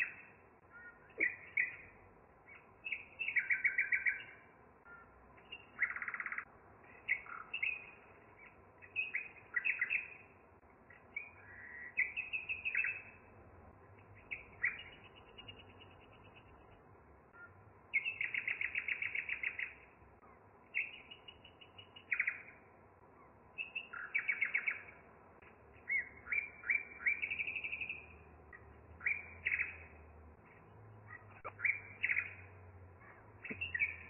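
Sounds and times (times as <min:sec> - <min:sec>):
bird singing trills: 0:00.0 - 0:10.3, 0:10.9 - 0:13.3, 0:14.0 - 0:25.1, 0:25.7 - 0:34.0.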